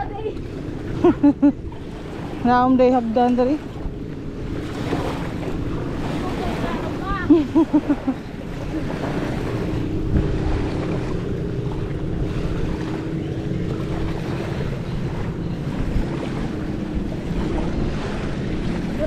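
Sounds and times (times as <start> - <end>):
motor humming: 0.0 - 19.0
wind buffeting microphone: 0.0 - 19.0.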